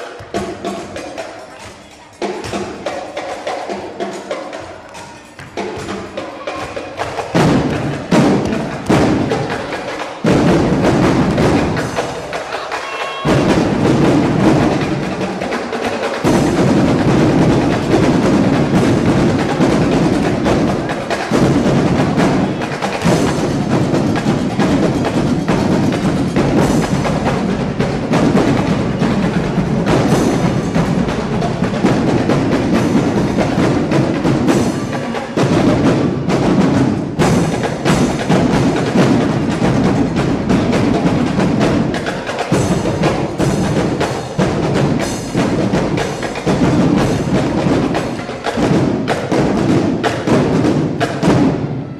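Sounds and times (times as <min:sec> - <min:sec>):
drum line playing: 0:00.0 - 0:51.9.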